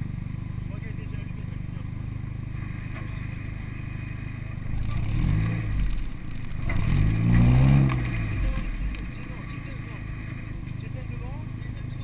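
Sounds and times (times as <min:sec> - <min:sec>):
car engine idling: 0:00.0 - 0:12.0
car engine revving: 0:00.0 - 0:12.0.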